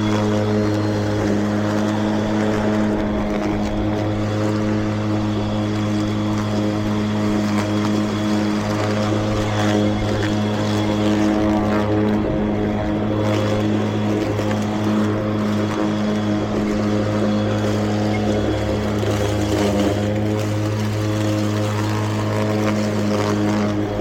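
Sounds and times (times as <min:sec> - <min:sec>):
electric mower humming: 0:00.0 - 0:24.0.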